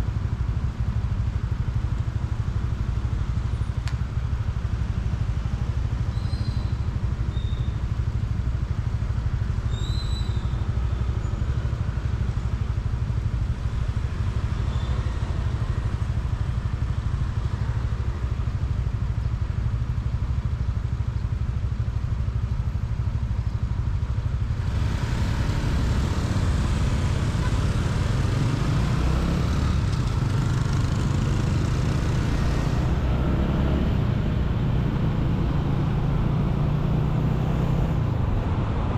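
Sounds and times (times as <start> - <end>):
motorcycle engine rumble: 0.0 - 38.9
road and traffic hiss: 0.0 - 38.9.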